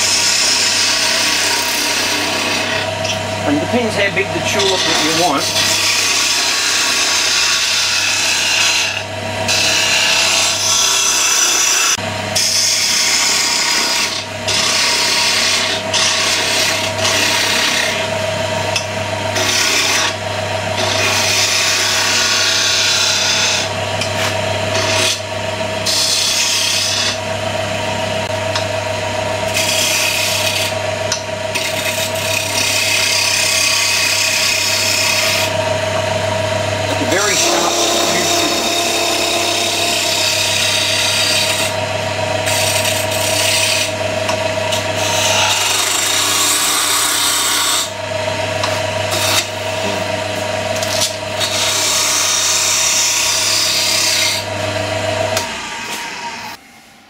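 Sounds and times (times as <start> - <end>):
lathe humming: 0.0 - 57.0.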